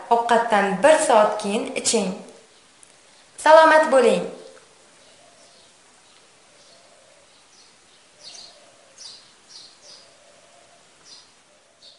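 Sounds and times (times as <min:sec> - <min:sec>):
faint birds chirping: 0:00.0 - 0:11.9
steady hiss: 0:00.8 - 0:11.9.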